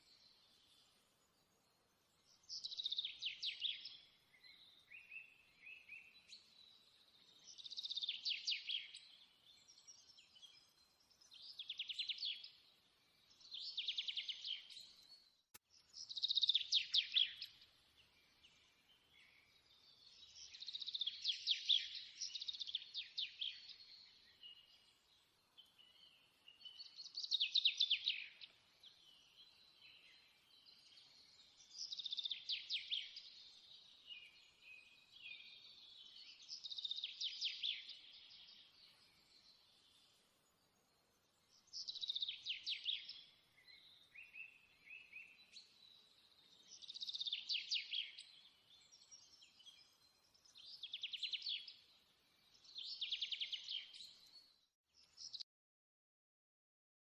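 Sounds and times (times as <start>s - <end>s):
songbird singing trilled phrases: 2.3s - 55.4s.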